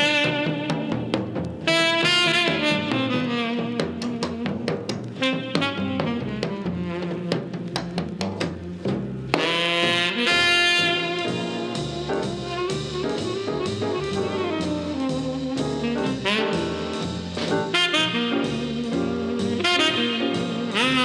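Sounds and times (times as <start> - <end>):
saxophone melody: 0.0 - 7.8, 9.3 - 21.0
bass: 0.0 - 21.0
brass backing: 0.0 - 21.0
drum kit: 0.0 - 21.0.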